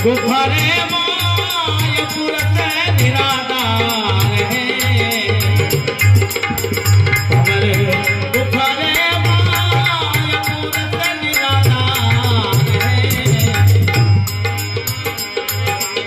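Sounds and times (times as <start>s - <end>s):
hand drum beating: 0.0s - 16.0s
harmonium melody: 0.0s - 16.0s
hand cymbals clinking: 0.1s - 8.5s, 9.1s - 16.0s.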